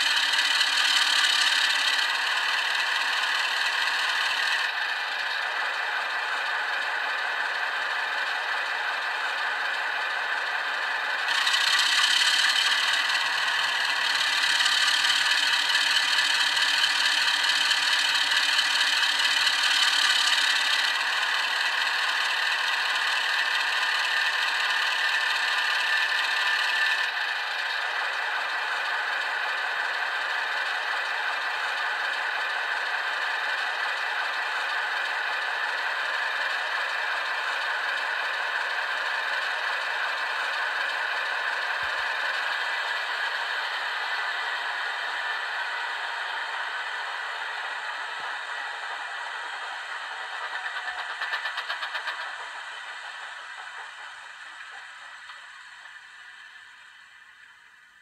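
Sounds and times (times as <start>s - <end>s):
diesel engine sound through small speaker: 0.0s - 58.0s.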